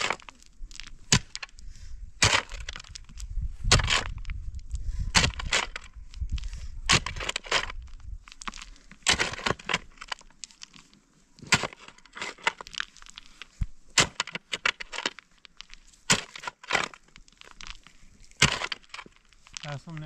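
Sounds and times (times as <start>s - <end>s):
hoes chopping stony soil: 0.0s - 20.0s.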